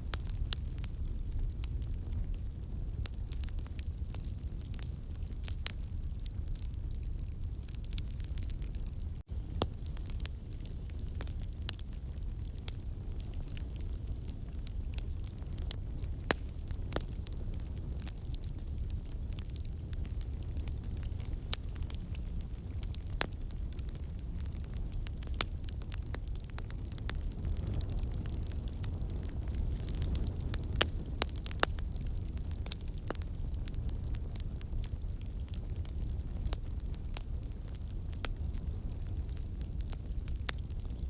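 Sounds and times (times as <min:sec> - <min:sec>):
fire crackling: 0:00.0 - 0:41.0
fire popping and snapping: 0:00.0 - 0:41.0.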